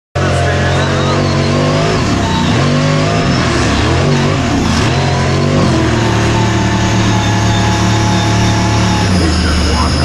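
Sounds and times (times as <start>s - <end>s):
truck engine revving: 0.2s - 10.0s.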